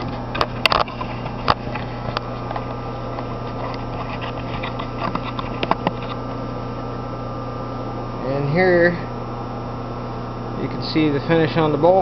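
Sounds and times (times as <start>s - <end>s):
electrical hum of machinery: 0.0s - 12.0s.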